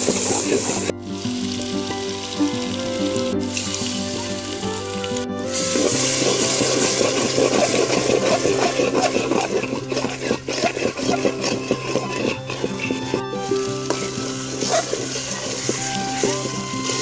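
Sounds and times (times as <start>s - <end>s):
food being stirred in pan: 0.0s - 2.8s, 3.5s - 17.0s
background music: 0.0s - 17.0s
chicken sizzling in hot oil: 0.0s - 17.0s.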